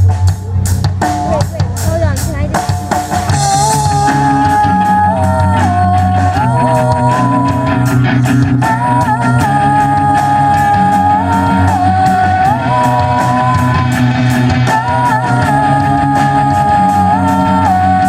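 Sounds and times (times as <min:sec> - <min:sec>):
drums: 0:00.0 - 0:18.0
rock band playing: 0:00.0 - 0:18.0.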